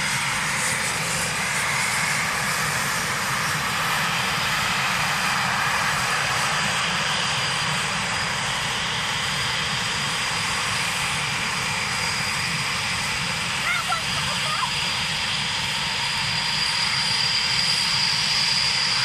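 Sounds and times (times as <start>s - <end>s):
jets taxiing: 0.0s - 19.0s.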